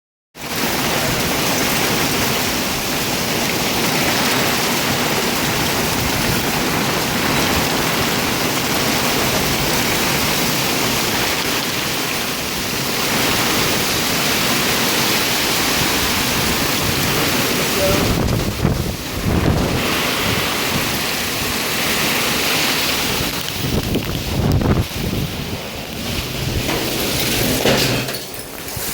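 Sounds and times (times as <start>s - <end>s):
heavy rain pouring: 0.4s - 28.9s.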